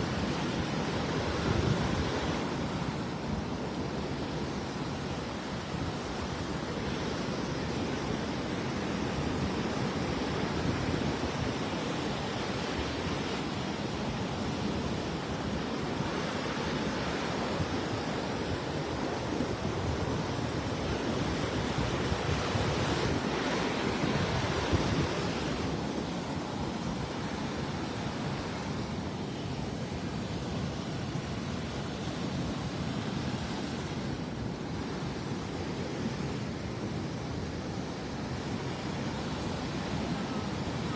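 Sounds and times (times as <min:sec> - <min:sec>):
surf waves breaking on beach: 0:00.0 - 0:40.9.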